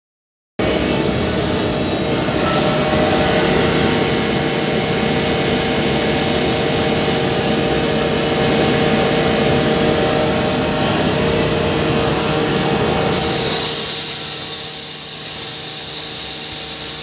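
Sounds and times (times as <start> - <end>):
hammer mill running: 0.6 - 17.0.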